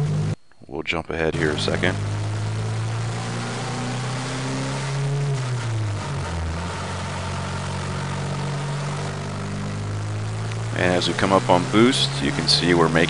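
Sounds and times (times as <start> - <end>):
turbocharged truck engine under load: 0.0 - 0.5, 1.3 - 13.0.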